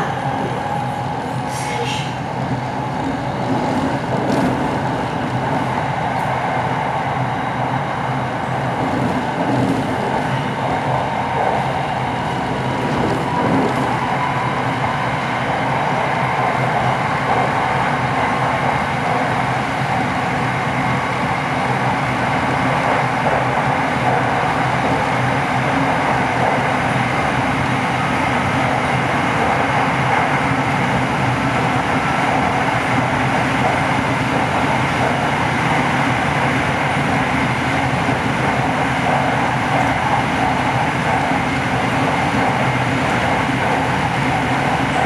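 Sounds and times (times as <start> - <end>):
train wheels rumbling: 0.0 - 45.0.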